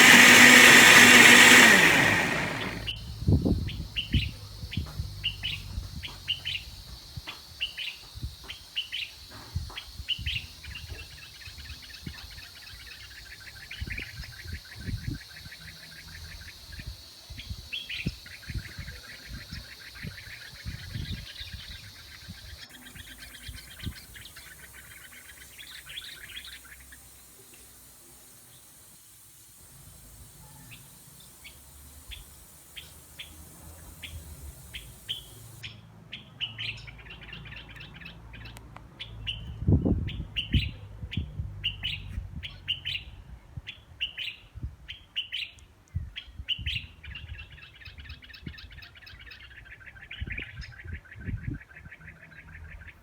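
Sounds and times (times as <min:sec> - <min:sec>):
small songbirds chirping: 0:00.0 - 0:53.0.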